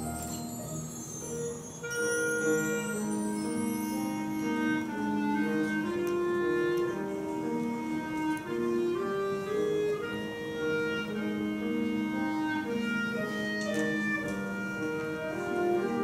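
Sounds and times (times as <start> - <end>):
concert band playing slowly: 0.0 - 16.0.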